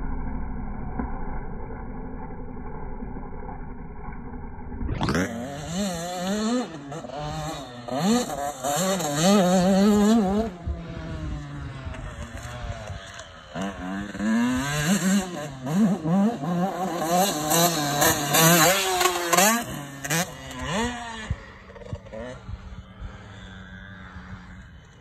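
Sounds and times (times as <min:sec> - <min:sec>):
dirt bike engine revving: 0:04.8 - 0:25.0.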